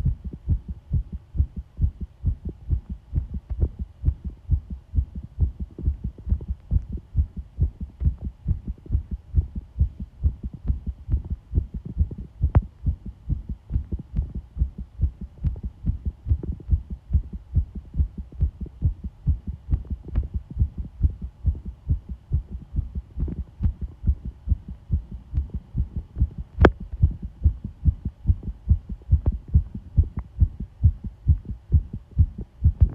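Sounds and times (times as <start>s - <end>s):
faint hum: 0.0s - 32.9s
heartbeat thumps: 0.0s - 32.9s.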